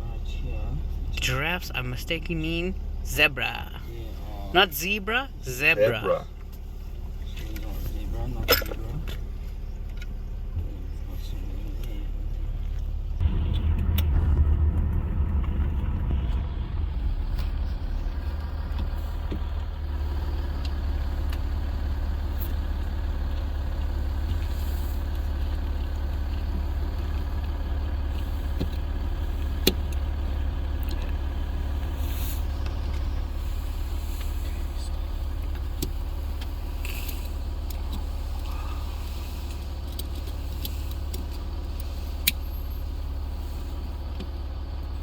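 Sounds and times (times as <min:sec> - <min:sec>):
engine and road rumble: 0:00.0 - 0:45.0.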